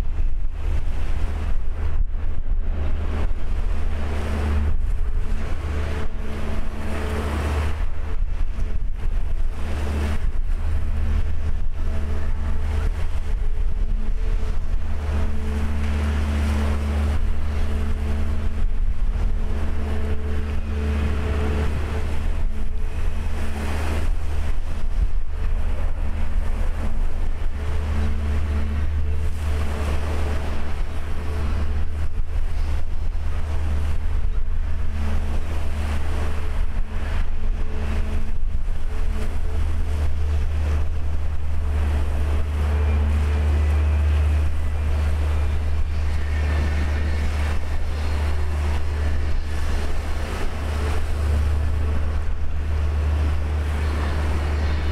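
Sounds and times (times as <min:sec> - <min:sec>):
boat engine droning: 0:00.0 - 0:54.9
waves splashing against hull: 0:00.0 - 0:54.9
wind buffeting microphone: 0:00.0 - 0:54.9.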